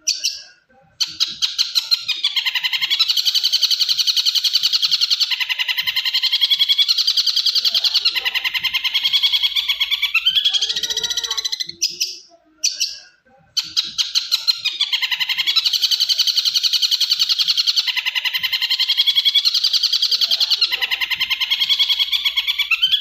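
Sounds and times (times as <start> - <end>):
bird chattering song: 0.0 - 23.0.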